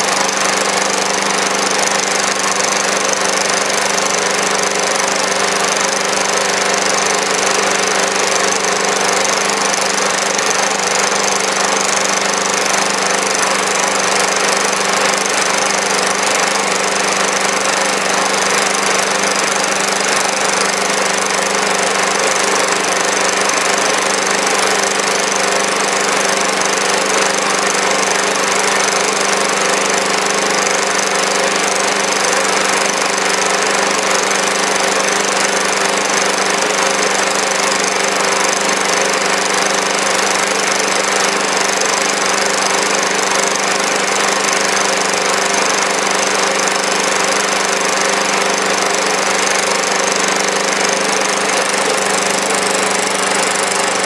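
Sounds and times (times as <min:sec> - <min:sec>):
small engine running under load: 0:00.0 - 0:54.0.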